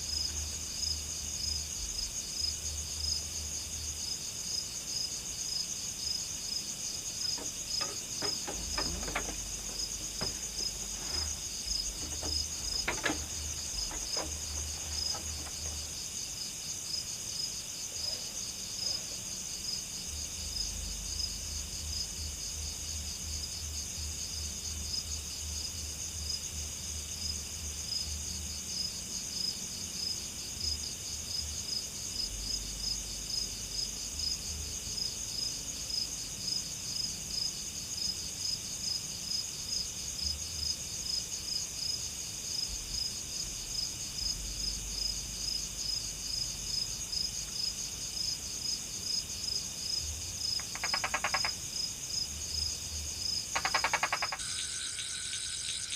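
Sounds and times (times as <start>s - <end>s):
crickets trilling: 0.0s - 55.9s.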